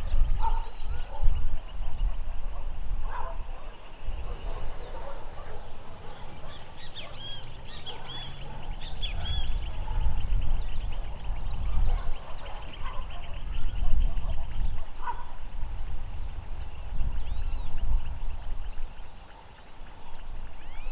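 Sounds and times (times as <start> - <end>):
wind rumbling on microphone: 0.0 - 20.9.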